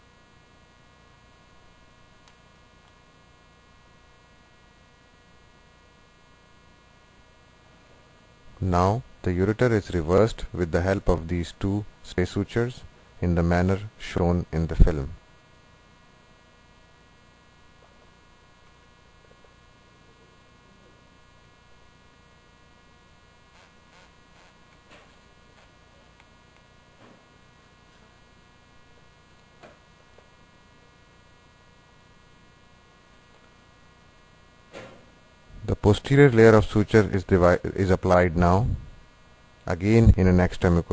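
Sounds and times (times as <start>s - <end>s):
faint buzzy electrical hum: 0.0s - 40.9s.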